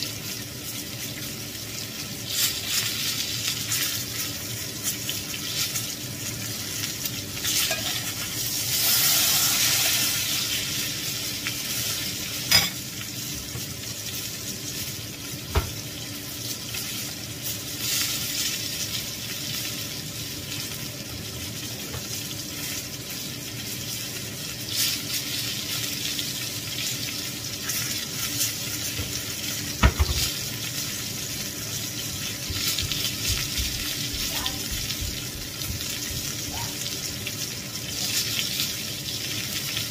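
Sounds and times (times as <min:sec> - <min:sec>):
meat sizzling in skillet: 0:00.0 - 0:39.9.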